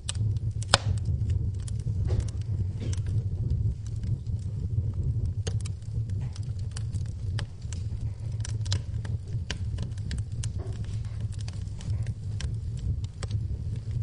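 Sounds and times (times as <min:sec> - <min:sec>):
low rumble of burning fire: 0:00.0 - 0:14.0
wood fire crackling and popping: 0:00.0 - 0:14.0.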